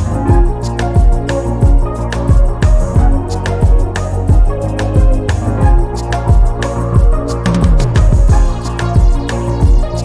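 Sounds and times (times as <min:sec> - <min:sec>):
kick drum thumps: 0:00.0 - 0:09.9.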